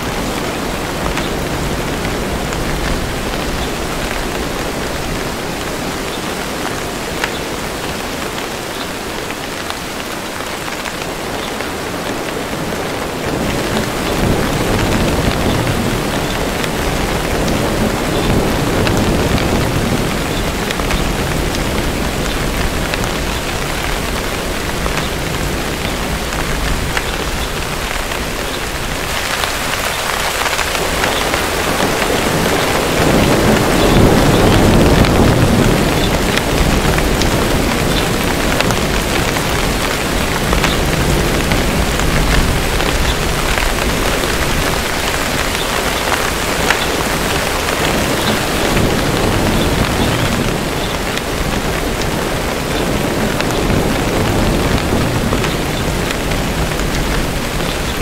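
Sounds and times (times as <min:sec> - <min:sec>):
distant thunder rumbles: 0:00.0 - 0:58.0
steady rain: 0:00.0 - 0:58.0.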